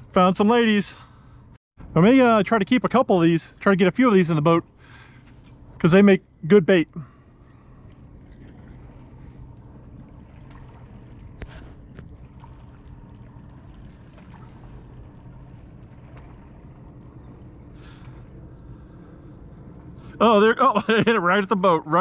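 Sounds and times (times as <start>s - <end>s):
boat engine low hum: 0.0s - 22.0s.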